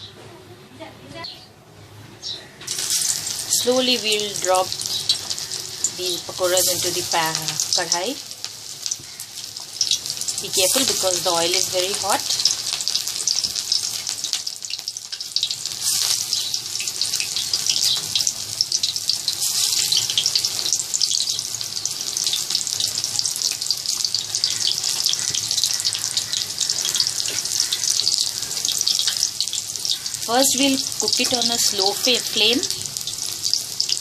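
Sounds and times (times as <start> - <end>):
fritters sizzling in hot oil: 2.6 - 34.0.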